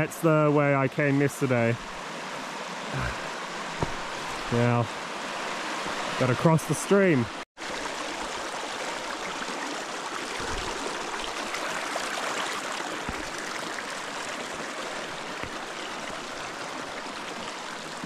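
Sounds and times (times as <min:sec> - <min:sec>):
stream rushing over stones: 0:00.0 - 0:18.0.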